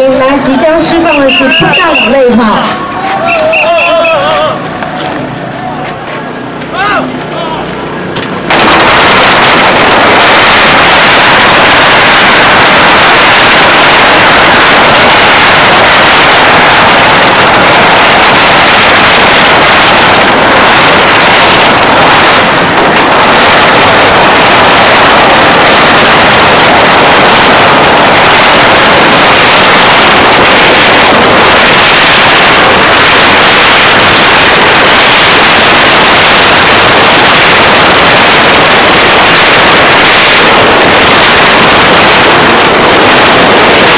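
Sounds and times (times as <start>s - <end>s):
firecrackers crackling: 0.0s - 43.9s.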